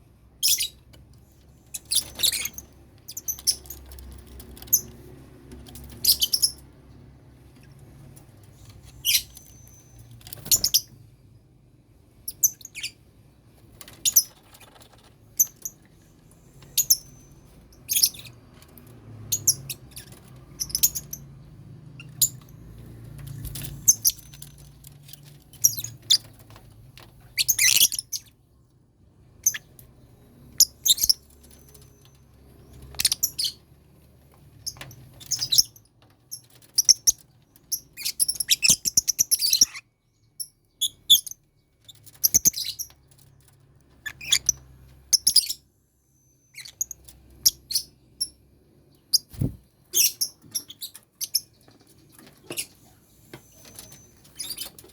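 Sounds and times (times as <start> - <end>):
lovebirds chirping: 0.4 - 5.1, 5.7 - 6.8, 7.4 - 11.0, 12.1 - 13.1, 13.9 - 18.6, 19.2 - 26.6, 27.2 - 28.4, 29.2 - 33.9, 34.5 - 43.3, 43.9 - 54.9.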